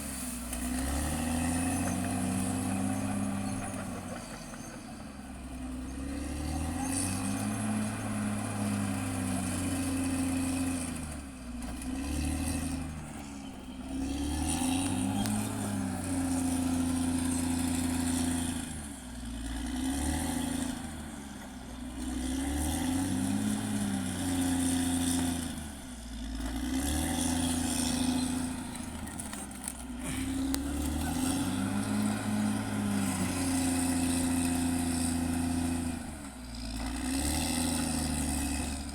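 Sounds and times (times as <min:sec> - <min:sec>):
bulldozer diesel engine revving: 0:00.0 - 0:38.9.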